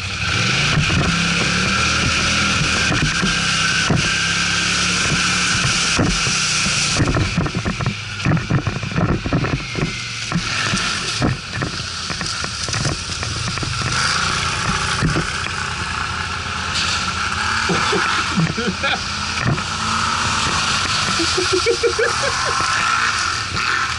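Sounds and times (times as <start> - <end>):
quad bike engine running: 0.0 - 23.9
knocks and rattles: 0.6 - 16.0, 19.3 - 23.8.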